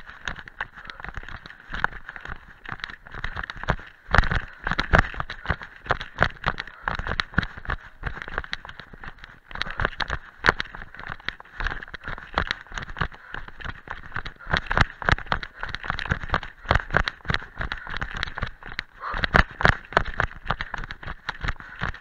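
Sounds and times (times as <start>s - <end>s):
running footsteps on leaves and gravel: 0.0s - 22.0s.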